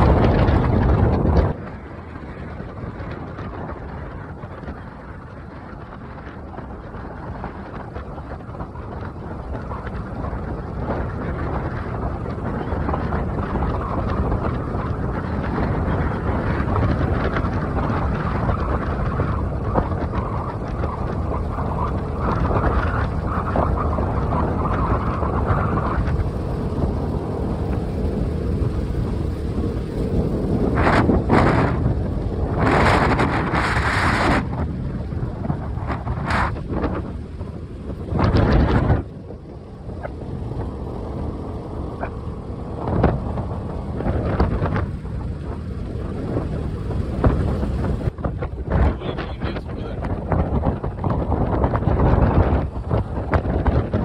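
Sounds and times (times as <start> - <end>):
road and vehicle rumble: 0.0 - 54.0
wind buffeting microphone: 0.0 - 54.0.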